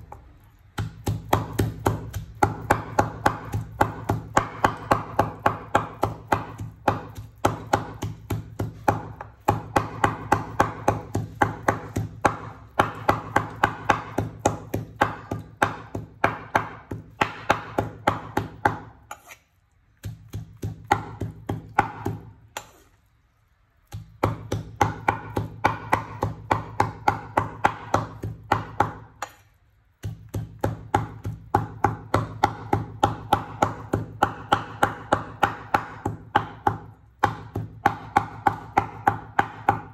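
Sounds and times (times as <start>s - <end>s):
cleaver chopping on wooden board: 0.8s - 19.4s, 20.0s - 22.8s, 23.9s - 29.4s, 30.0s - 39.9s.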